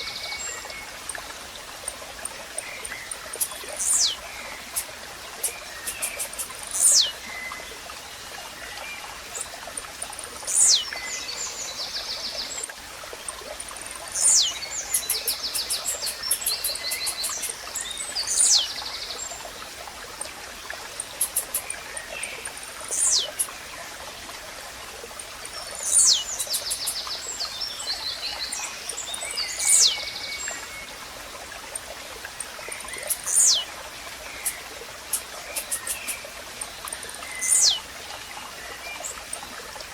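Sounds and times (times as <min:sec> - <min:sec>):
small birds ticking and trilling: 0:00.0 - 0:24.0, 0:25.1 - 0:39.5
running stream: 0:00.0 - 0:39.9.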